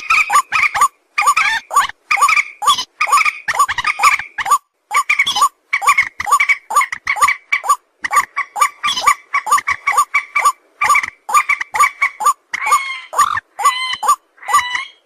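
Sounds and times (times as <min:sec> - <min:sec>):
short pitched animal calls: 0:00.0 - 0:15.0.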